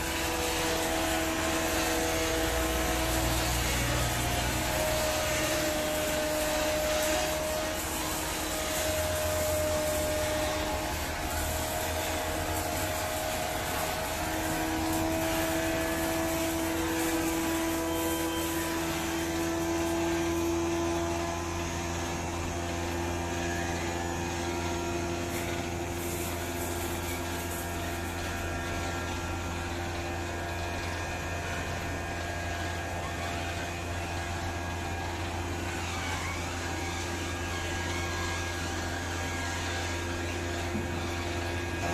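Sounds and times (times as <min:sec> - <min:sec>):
oil expeller droning: 0:00.0 - 0:41.9.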